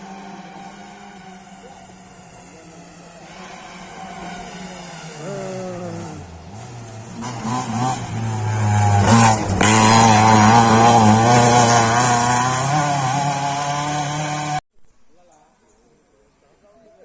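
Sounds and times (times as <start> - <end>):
rally car engine revving: 0.0 - 14.6.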